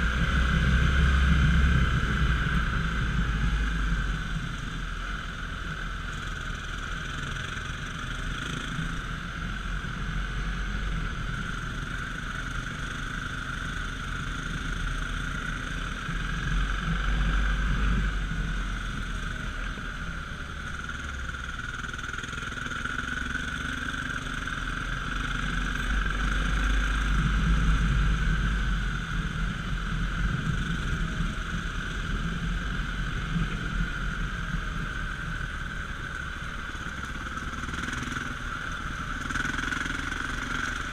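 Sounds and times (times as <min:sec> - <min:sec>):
dirt bike engine rumbling: 0:00.0 - 0:40.9.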